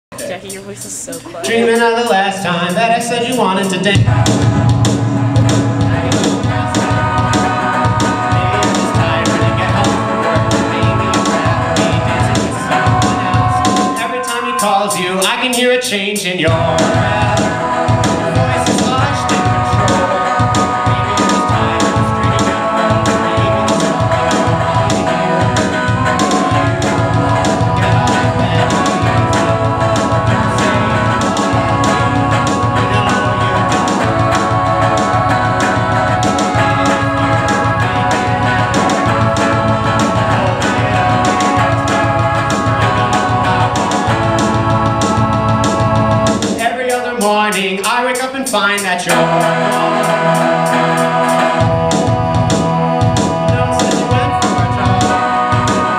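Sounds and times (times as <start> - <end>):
steady drum beat: 0.0 - 55.9
electric guitar: 0.1 - 15.8, 16.4 - 46.6, 49.1 - 55.9
organ-like held tones: 0.1 - 47.5, 49.1 - 55.9.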